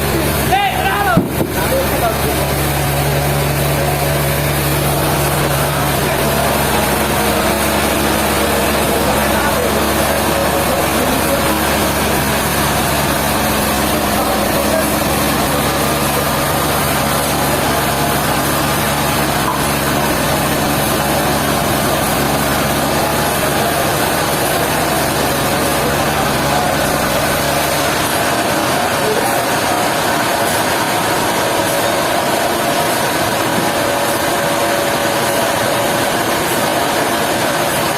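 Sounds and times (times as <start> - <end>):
sawmill machinery running: 0.0 - 37.9.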